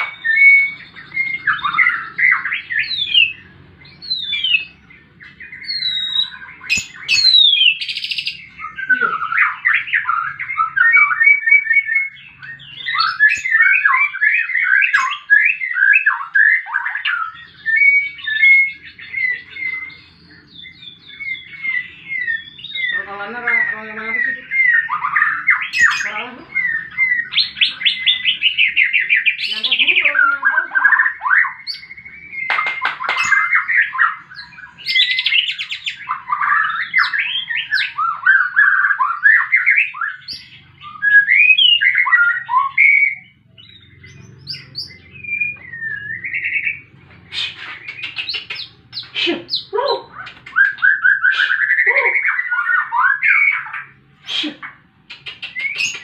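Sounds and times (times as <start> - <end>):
songbird singing varied song: 0.0 - 56.0.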